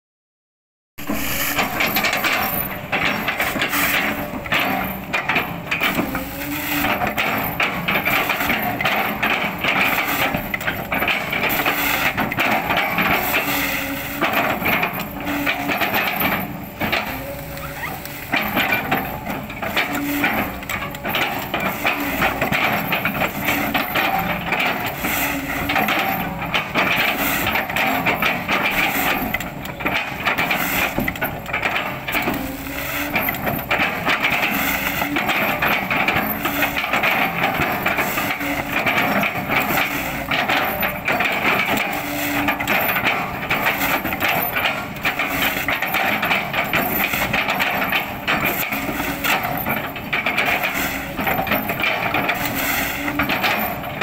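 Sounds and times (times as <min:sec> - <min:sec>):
excavator engine and hydraulics: 0:01.0 - 0:54.0.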